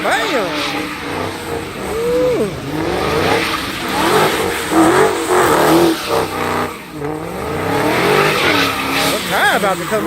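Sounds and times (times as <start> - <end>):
car engine revving hard: 0.0 - 10.0
tires squealing: 0.0 - 10.0.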